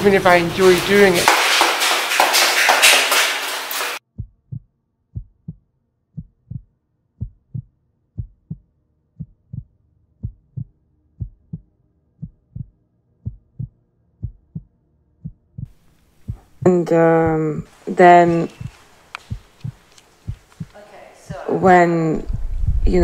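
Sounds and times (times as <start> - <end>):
slow heartbeat: 4.1 - 23.0.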